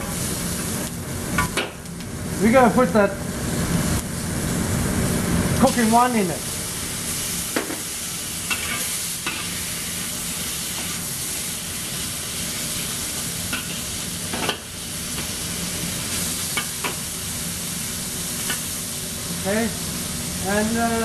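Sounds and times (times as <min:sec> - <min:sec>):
vegetables sizzling in a wok: 0:00.0 - 0:21.0.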